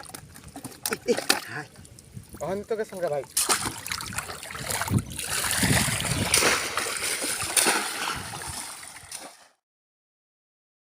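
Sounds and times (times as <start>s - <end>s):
water splashing and sloshing: 0.0s - 9.6s.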